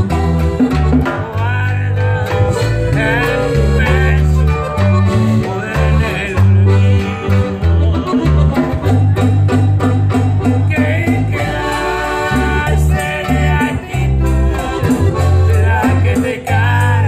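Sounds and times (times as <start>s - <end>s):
piano accordion: 0.0s - 17.0s
strummed guitar: 0.0s - 17.0s
man singing: 1.0s - 8.6s, 10.6s - 17.0s.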